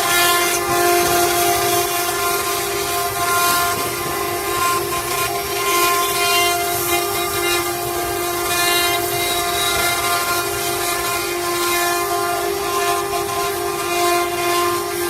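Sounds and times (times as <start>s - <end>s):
hiss of cutting wood: 0.0s - 15.0s
router spindle whining: 0.0s - 15.0s.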